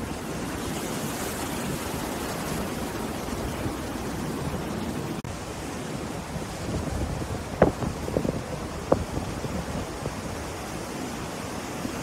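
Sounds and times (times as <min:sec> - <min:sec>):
sea surf breaking on beach: 0:00.0 - 0:12.0.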